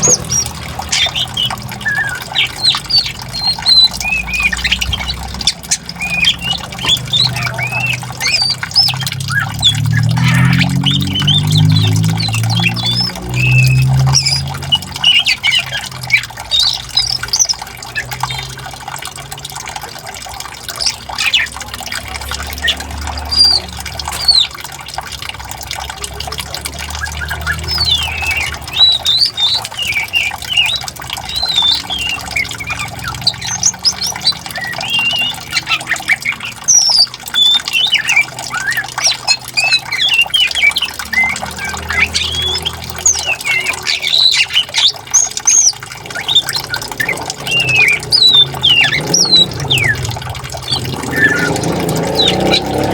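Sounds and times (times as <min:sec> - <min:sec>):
running water: 0:00.0 - 0:52.9
songbirds chirping: 0:00.0 - 0:52.9.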